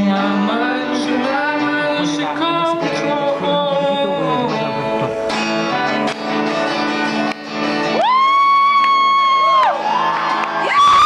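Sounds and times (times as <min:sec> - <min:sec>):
guitar strumming chords: 0:00.0 - 0:10.6.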